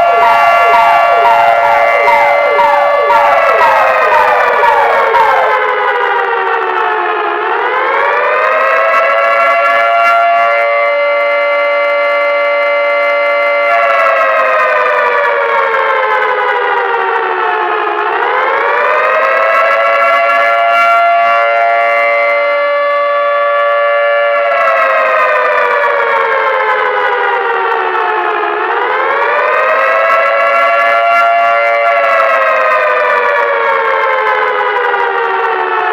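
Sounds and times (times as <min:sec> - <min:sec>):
siren wailing: 0:00.0 - 0:35.9.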